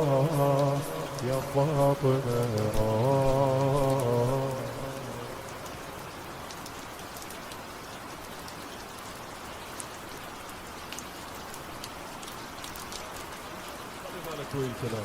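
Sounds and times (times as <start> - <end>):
patter of raindrops: 0.0 - 15.0
rain hissing: 0.0 - 15.0.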